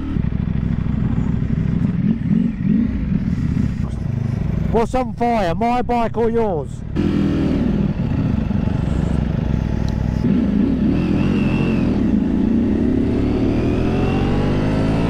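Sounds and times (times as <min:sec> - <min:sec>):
motorcycle engine accelerating: 0:00.0 - 0:04.9, 0:06.9 - 0:15.0.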